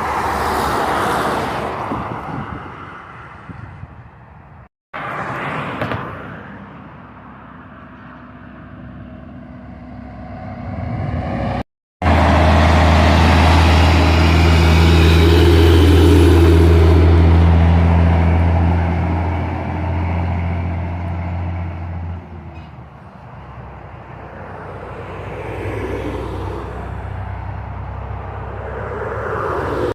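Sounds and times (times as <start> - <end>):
heavy truck engine drone: 5.0 - 29.9.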